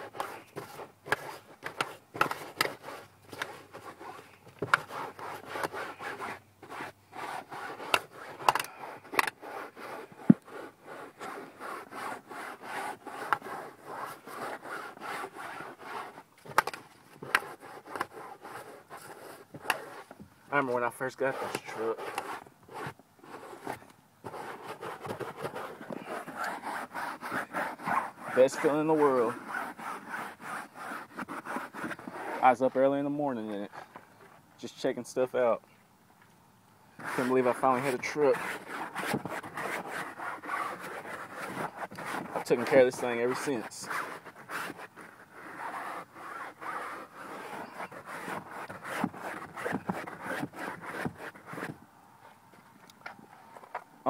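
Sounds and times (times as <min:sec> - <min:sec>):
rubbing on cloth upholstery: 0:00.0 - 0:33.8, 0:37.0 - 0:51.8.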